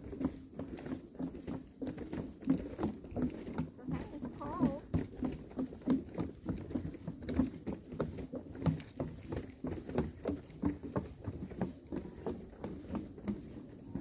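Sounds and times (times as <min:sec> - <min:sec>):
footsteps on forest path: 0:00.0 - 0:14.0.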